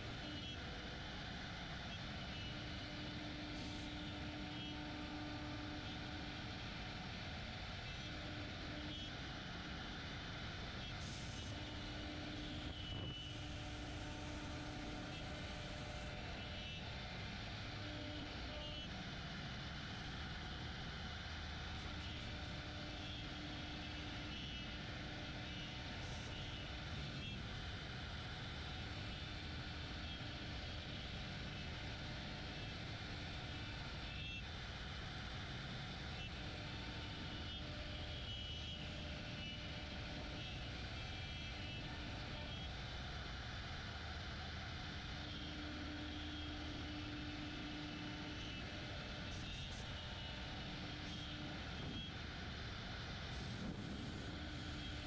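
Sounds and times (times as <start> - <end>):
cnc router running: 0.0 - 55.0
high machine whine: 0.0 - 55.0.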